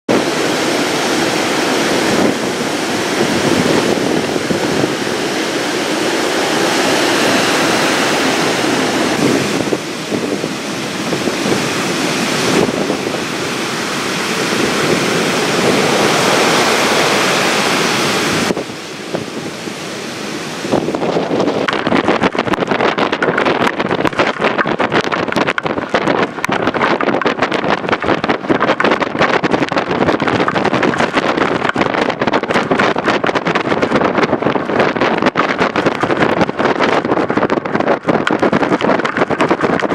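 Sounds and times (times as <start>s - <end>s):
surf: 0.1s - 39.9s
wind blasting microphone: 0.1s - 39.9s.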